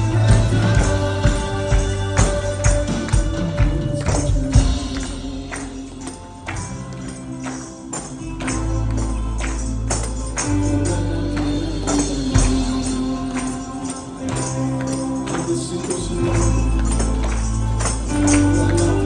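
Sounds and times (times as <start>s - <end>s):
church worship music: 0.0s - 19.0s
tambourine: 0.0s - 19.0s.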